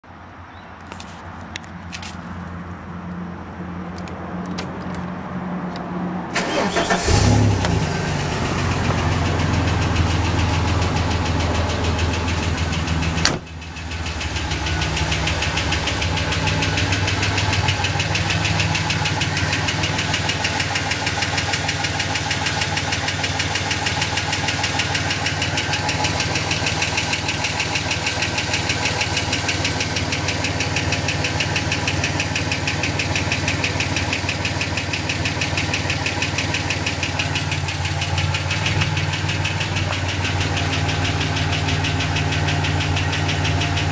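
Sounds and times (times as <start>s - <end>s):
car engine idling: 6.4s - 43.9s
fast ticking under car: 7.7s - 43.9s.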